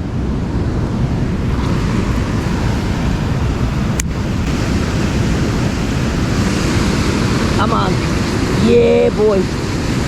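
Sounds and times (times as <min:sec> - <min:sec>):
water rushing through a spillway: 0:01.0 - 0:10.0.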